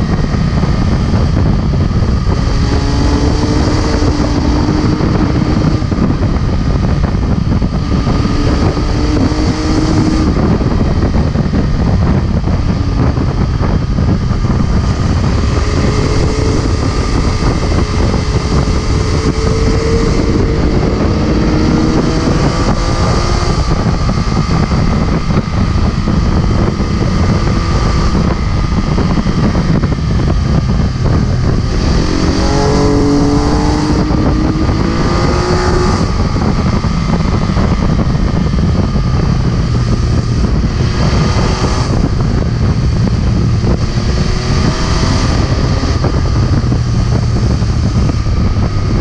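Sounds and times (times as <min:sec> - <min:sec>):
motorcycle engine running: 0:00.0 - 0:49.0
wind rushing over microphone: 0:00.0 - 0:49.0.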